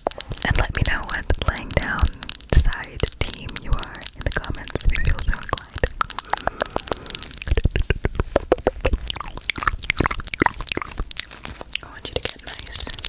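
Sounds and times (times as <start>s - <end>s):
wet clicks and crackles: 0.0s - 13.0s.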